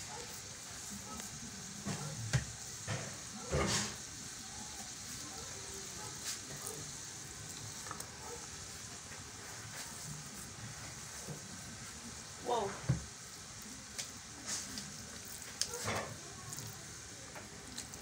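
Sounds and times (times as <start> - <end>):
hot water pot hissing: 0.0 - 18.0.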